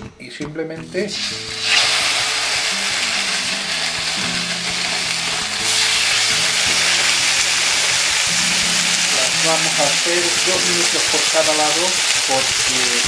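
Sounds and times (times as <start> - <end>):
fish sizzling on a griddle: 1.1 - 13.0.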